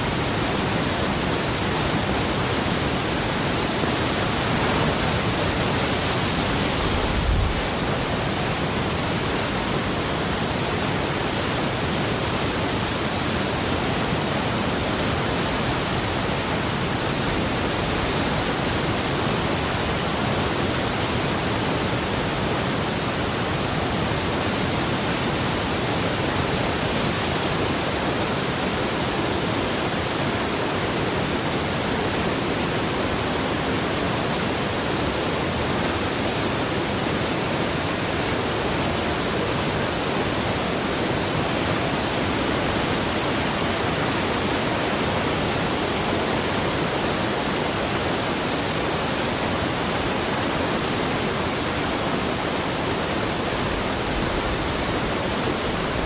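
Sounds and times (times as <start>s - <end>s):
heavy water rushing: 0.0s - 56.0s.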